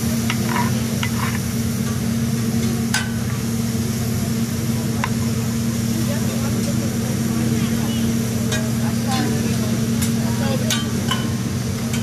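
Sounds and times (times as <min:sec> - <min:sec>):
faint griddle sizzle: 0:00.0 - 0:12.0
low machine hum: 0:00.0 - 0:12.0.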